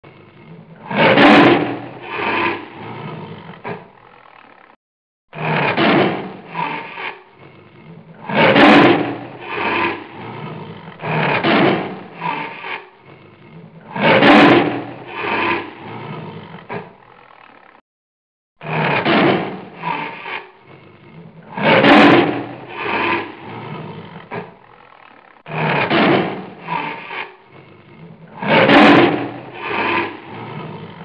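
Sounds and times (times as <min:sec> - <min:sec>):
leopard growling and snarling: 0:00.0 - 0:17.8, 0:18.6 - 0:31.0.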